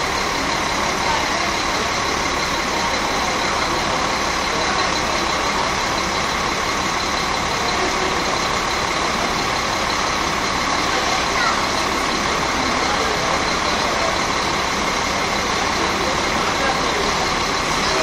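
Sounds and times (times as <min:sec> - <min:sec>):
bus diesel engine idling: 0:00.0 - 0:18.0.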